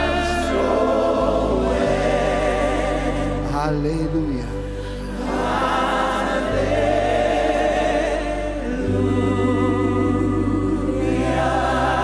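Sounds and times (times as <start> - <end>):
choir singing with vibrato: 0.0 - 3.5, 4.6 - 12.0
held keyboard chords: 0.0 - 12.0.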